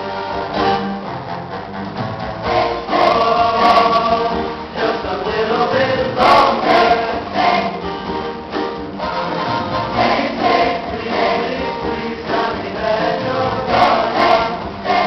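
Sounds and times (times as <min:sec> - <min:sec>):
large chorus singing: 0:02.4 - 0:15.0.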